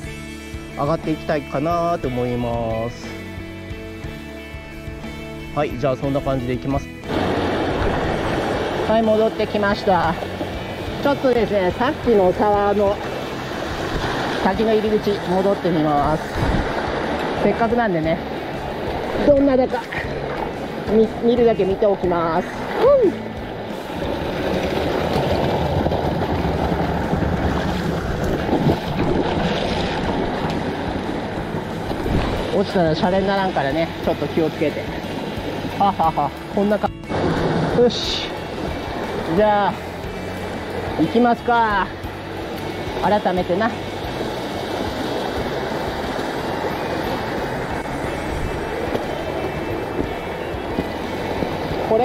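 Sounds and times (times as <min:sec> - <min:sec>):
mountain stream rushing: 0:06.1 - 0:52.0.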